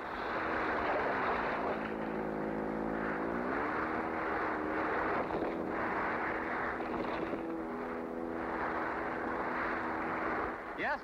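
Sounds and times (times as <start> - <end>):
outboard motor running at high speed: 0.0 - 11.0.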